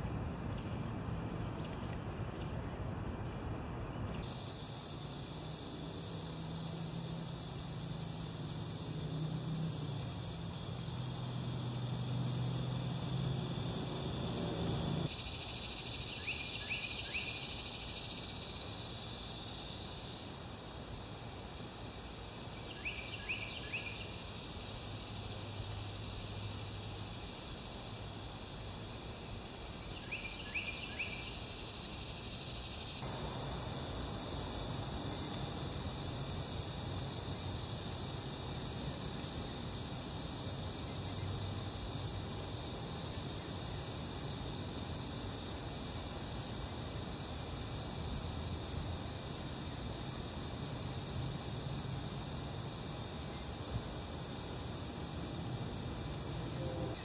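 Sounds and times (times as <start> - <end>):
insect chorus buzzing: 0.0 - 3.2, 3.9 - 57.0.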